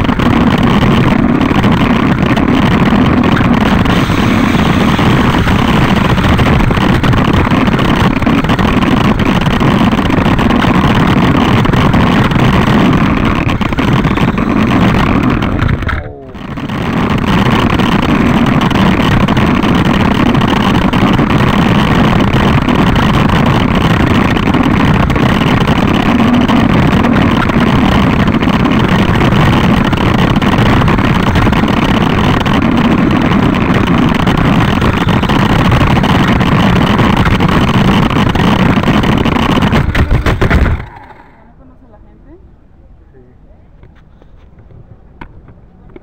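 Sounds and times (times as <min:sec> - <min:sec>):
loud motor drone: 0:00.0 - 0:41.5.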